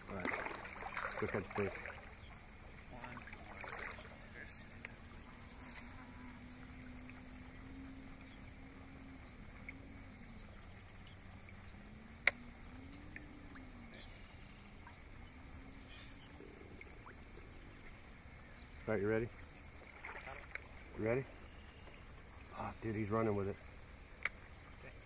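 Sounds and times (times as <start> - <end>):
low wavering hum: 0.0 - 25.0.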